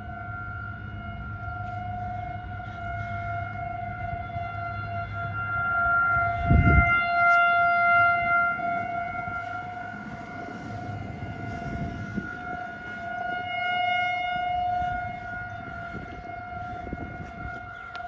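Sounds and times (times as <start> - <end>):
outdoor warning siren: 0.0 - 18.0.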